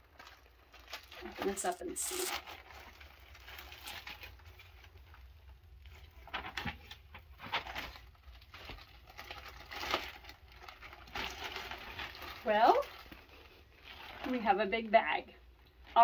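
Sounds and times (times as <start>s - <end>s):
plastic bag rustling: 0.0s - 14.8s.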